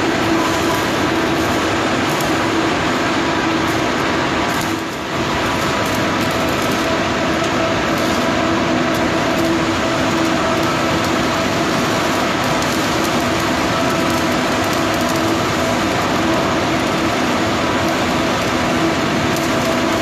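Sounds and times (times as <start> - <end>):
arc welding crackling hiss: 0.0 - 20.0.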